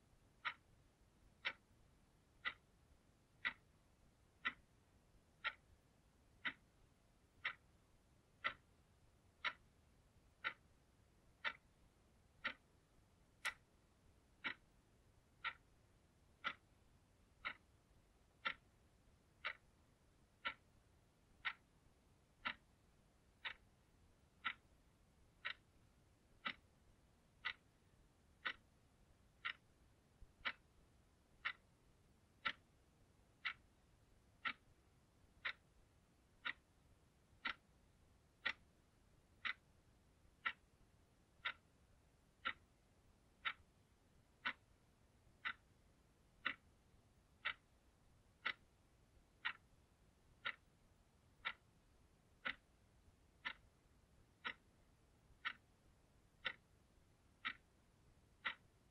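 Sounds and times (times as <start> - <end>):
alarm clock ticking: 0.0 - 58.9.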